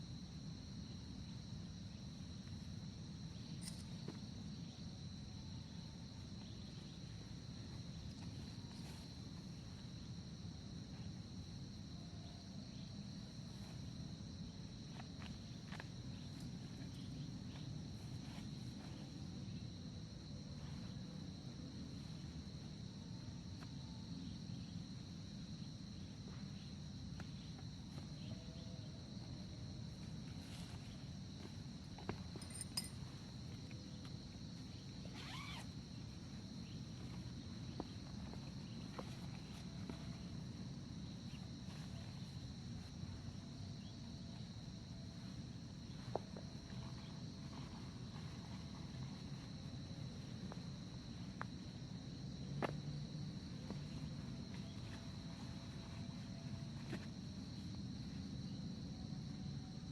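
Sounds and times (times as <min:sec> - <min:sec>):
insect chorus ringing: 0:11.5 - 0:59.9.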